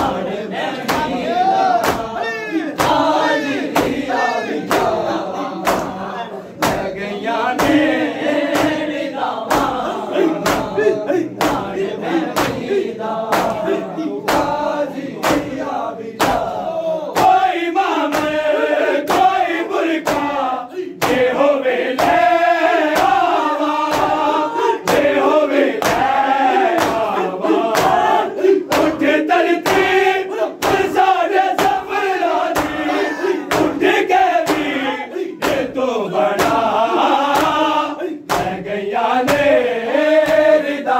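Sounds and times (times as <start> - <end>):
hands slapping chests: 0.0 - 6.0, 6.6 - 16.6, 17.2 - 40.7
men chanting in unison: 0.0 - 40.9.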